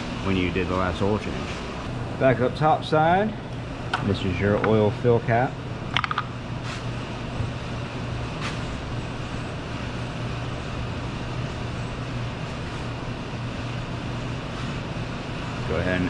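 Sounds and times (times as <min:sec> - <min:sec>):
mechanical fan hum: 0:00.0 - 0:16.0.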